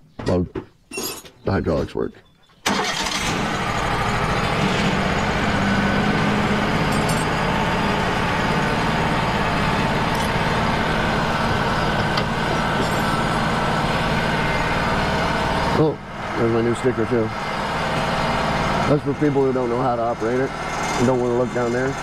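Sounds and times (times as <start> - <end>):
sawmill engine running: 2.6 - 22.0.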